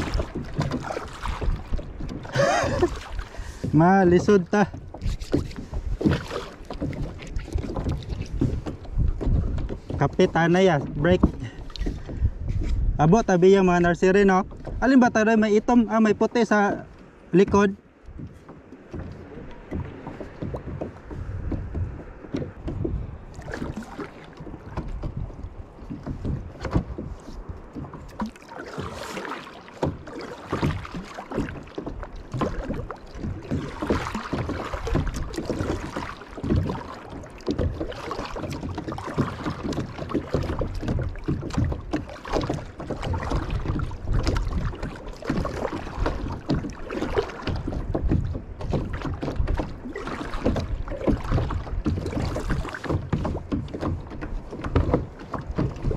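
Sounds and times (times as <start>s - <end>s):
wind rumble on microphone: 0.0s - 16.4s, 17.5s - 28.3s, 32.0s - 55.9s
kayak paddle strokes in water: 0.0s - 55.9s
water splashing against hull: 0.0s - 55.9s.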